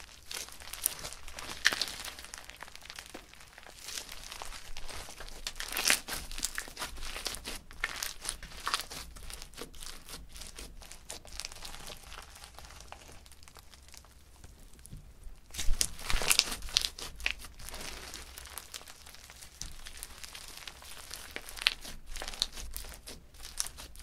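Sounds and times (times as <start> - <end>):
crunchy slime crackling and popping: 0.0 - 24.0.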